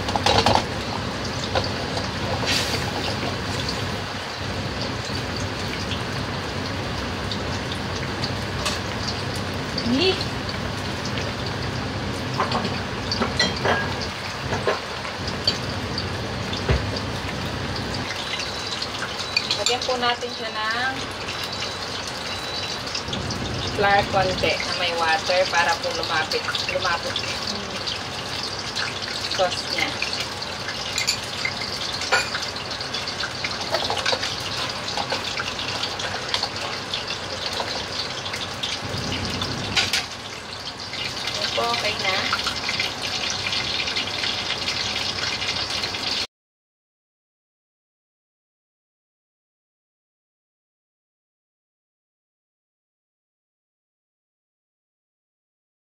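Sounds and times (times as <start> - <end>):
sauce sizzling in a wok: 0.0 - 46.3.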